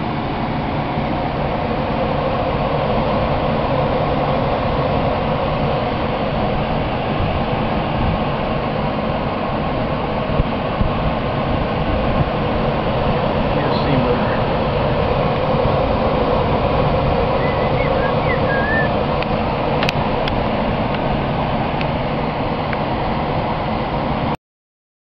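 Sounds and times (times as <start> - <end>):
blower motor running: 0.0 - 24.4.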